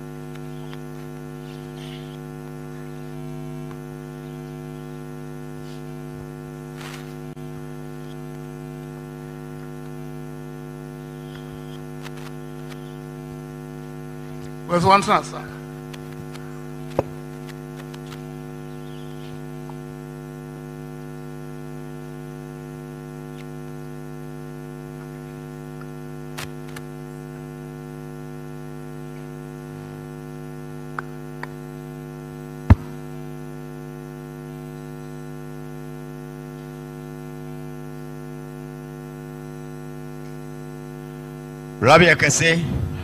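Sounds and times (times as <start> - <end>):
electrical mains hum: 0.0 - 43.0.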